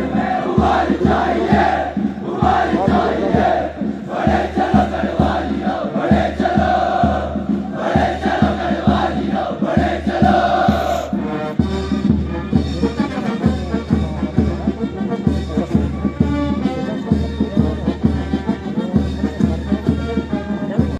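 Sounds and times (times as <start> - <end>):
military brass band playing a march: 0.0 - 20.9.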